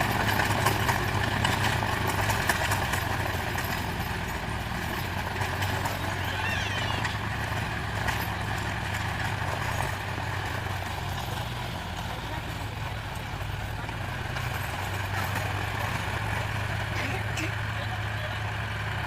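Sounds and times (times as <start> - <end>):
tractor diesel engine humming: 0.0 - 19.0.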